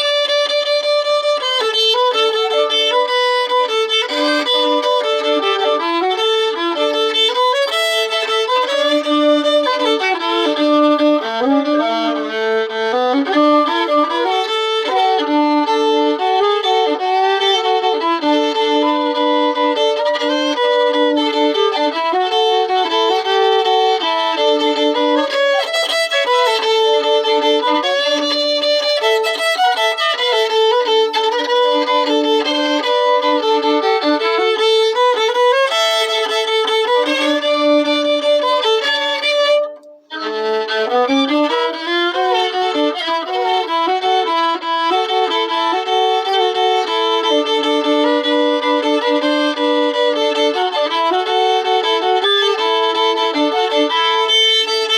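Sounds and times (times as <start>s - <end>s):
solo fiddle tune: 0.0s - 54.9s.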